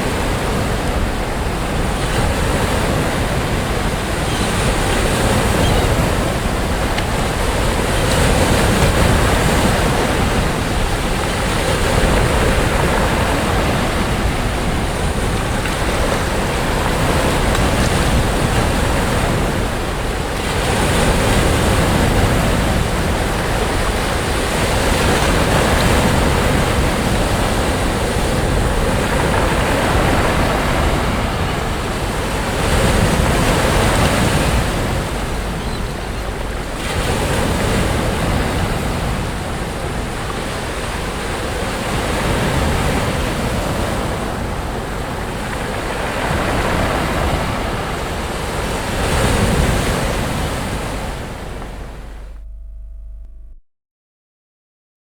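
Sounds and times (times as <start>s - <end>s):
sea waves breaking: 0.0s - 53.6s
wind rumble on microphone: 0.0s - 53.6s.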